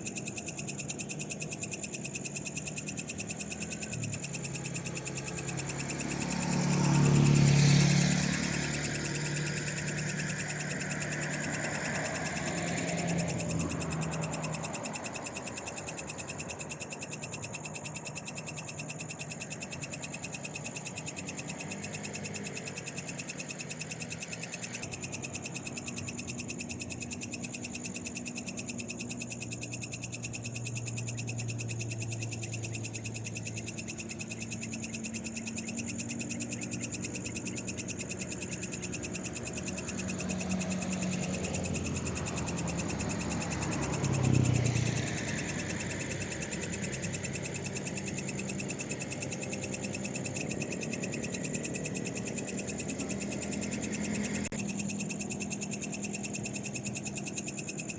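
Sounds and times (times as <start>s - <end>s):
frogs calling: 0.0s - 57.9s
insects trilling: 0.0s - 57.9s.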